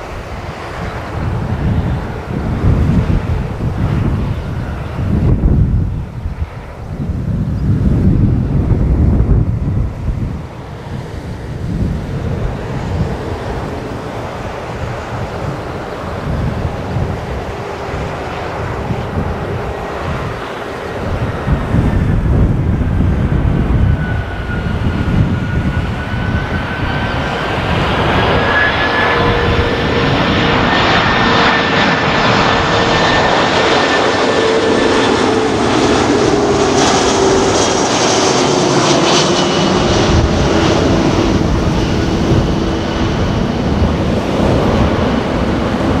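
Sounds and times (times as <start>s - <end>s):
jet airliner passing low: 0.0s - 46.0s.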